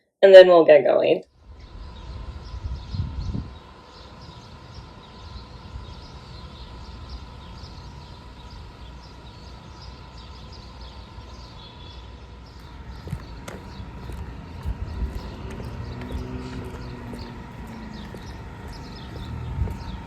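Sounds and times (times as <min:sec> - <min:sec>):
steady low rumble: 0:01.4 - 0:11.4, 0:12.3 - 0:20.0.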